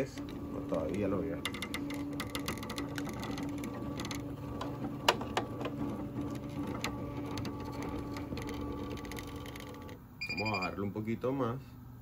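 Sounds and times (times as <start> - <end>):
embroidery machine motor hum: 0.0 - 11.6.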